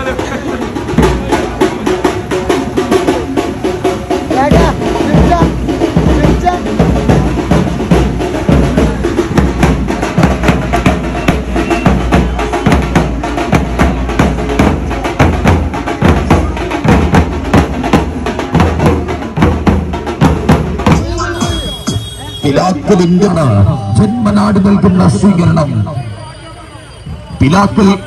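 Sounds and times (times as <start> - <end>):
fast continuous drumming: 0.0 - 25.6.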